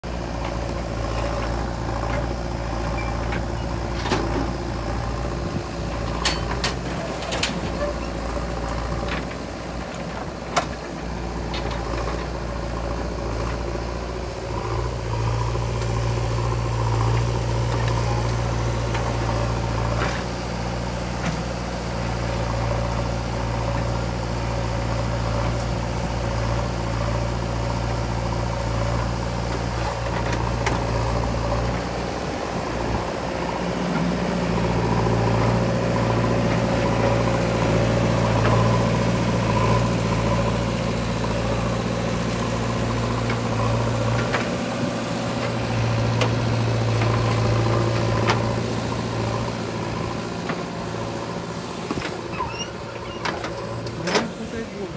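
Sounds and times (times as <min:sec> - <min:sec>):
diesel engines humming: 0:00.0 - 0:54.9.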